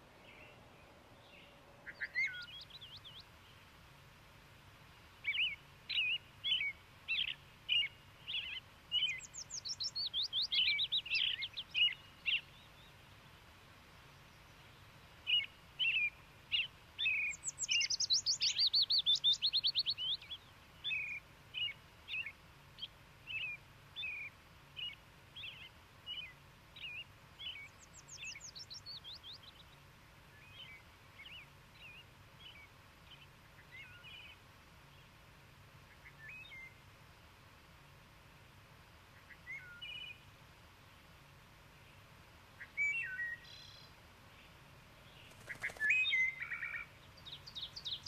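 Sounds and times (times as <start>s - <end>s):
songbirds chirping and trilling: 0.0s - 48.0s.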